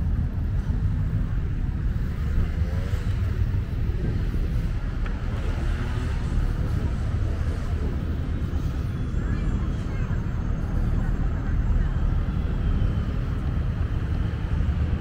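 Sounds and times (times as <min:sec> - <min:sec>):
faint voices: 0:00.0 - 0:15.0
wind buffeting microphone: 0:00.0 - 0:15.0.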